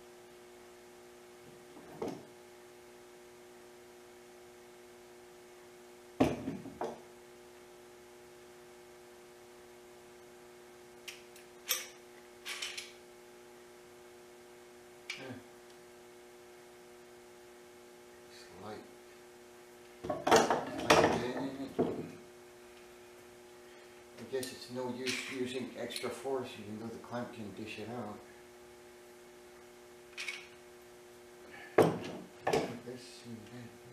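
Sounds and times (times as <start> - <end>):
steady hum: 0.0 - 33.9.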